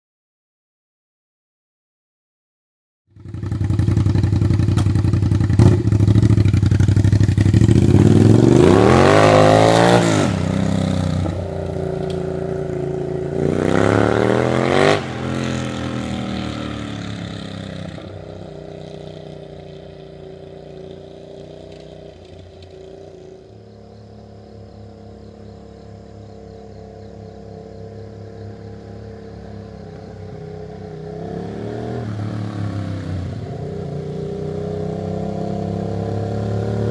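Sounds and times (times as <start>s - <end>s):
motorcycle exhaust revving: 3.1s - 36.9s.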